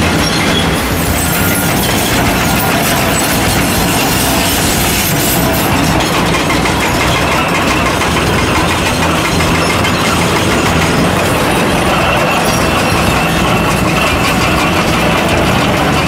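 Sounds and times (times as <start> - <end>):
excavator engine drone: 0.0 - 16.0
rock breaker clattering on rock: 0.0 - 16.0.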